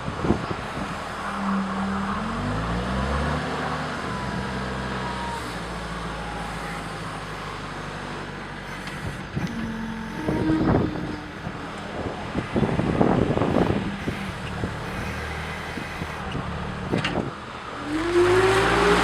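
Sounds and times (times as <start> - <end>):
skid steer loader engine running: 0.0 - 19.0.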